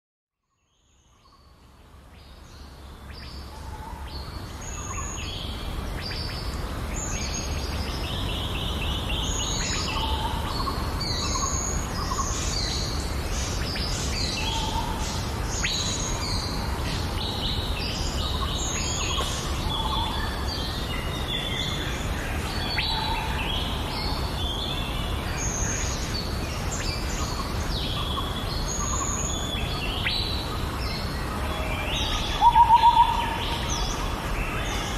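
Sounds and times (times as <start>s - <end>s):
birds chirping and singing: 2.6s - 34.9s.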